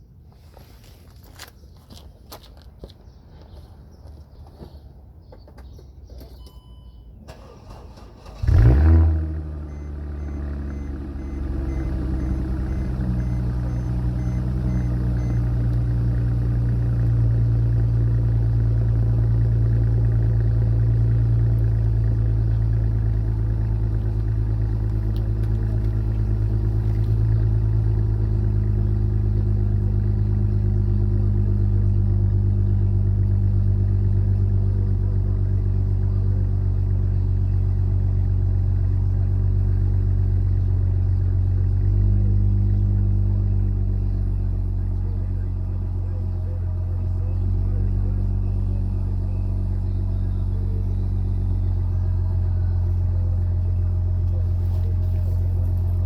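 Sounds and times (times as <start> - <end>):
deep exhaust rumble idling: 7.4 - 56.0.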